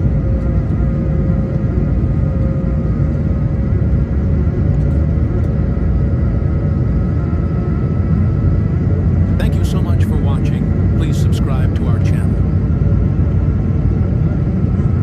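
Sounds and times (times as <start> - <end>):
airflow and engines rumbling: 0.0 - 15.0
faint constant whine: 0.0 - 15.0.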